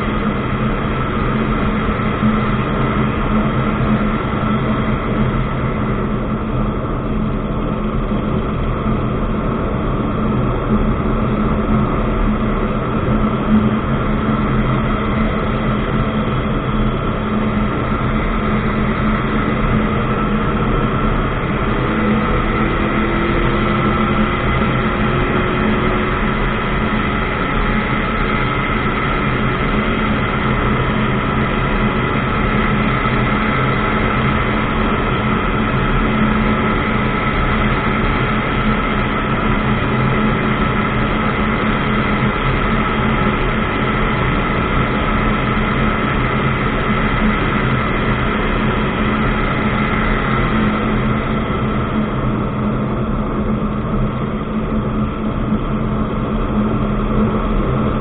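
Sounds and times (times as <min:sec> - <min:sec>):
aircraft engine drone: 0:00.0 - 0:58.0.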